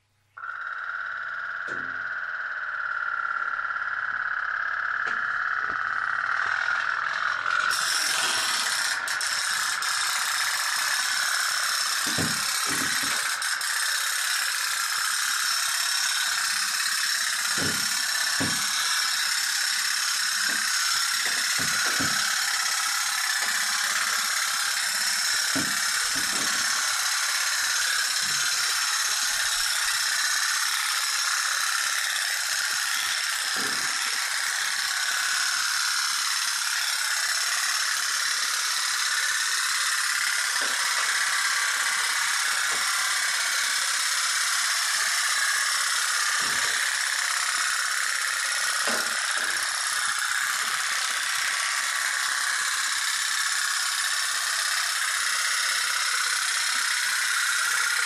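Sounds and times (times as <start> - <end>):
toy steam boat engine rattling: 1.4 - 58.0.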